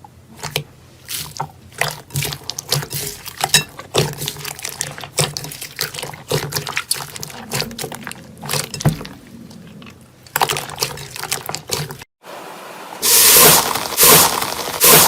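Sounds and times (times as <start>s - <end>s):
slime squelching by hand: 0.0s - 12.1s.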